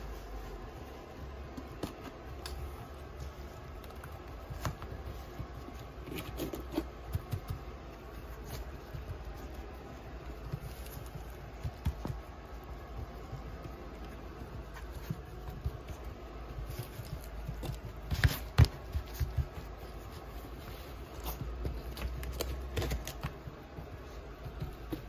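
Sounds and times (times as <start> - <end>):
low room hum: 0.0 - 25.0
puppy paws scrabbling: 0.0 - 25.0.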